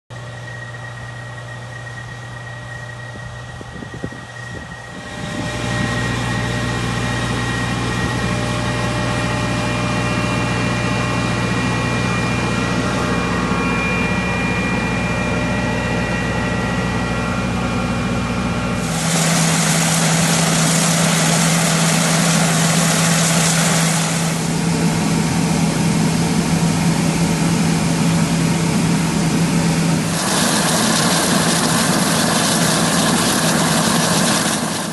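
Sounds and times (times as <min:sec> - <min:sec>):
heavy vehicle engine whining: 0:00.2 - 0:34.9.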